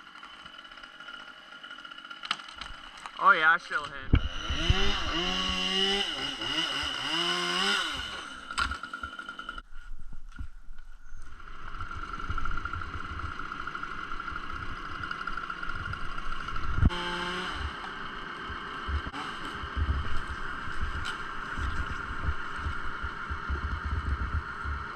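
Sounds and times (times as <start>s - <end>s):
chainsaw engine running: 0.0s - 9.6s, 11.3s - 24.9s.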